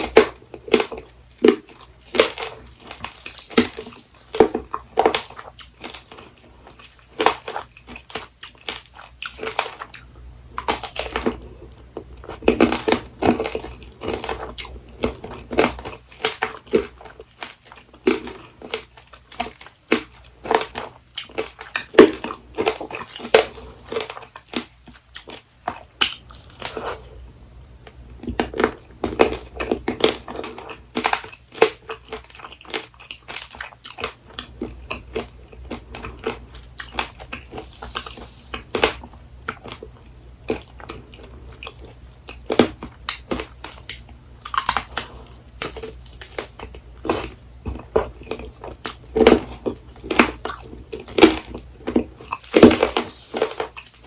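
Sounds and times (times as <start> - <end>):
candy shell crunching in teeth: 0.0 - 27.2, 28.2 - 54.0.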